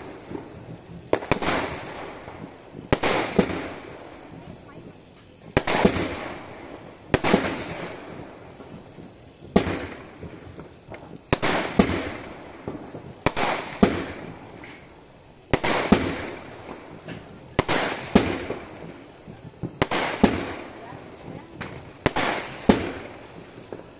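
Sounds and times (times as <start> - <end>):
firework crackle: 0.0 - 23.9
firework shells bursting: 0.0 - 23.9.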